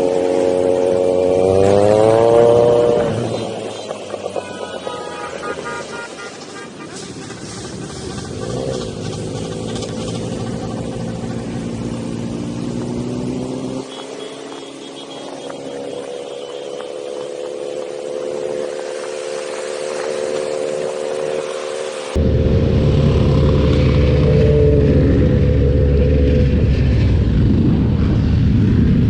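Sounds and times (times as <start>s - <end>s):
motorcycle engine accelerating: 0.0s - 5.8s, 7.2s - 29.0s.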